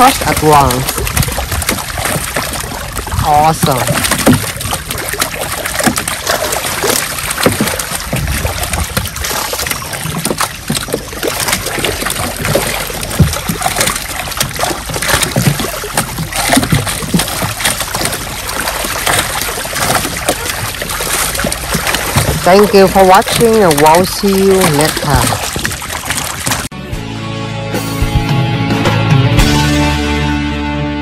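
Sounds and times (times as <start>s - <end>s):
fish thrashing and splashing: 0.0s - 26.7s.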